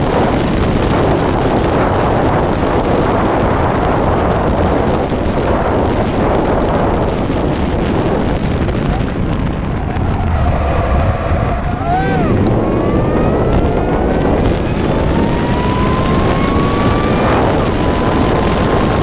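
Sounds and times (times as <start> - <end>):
vehicle engine at speed: 0.0 - 19.0
wind rush on microphone: 0.0 - 19.0.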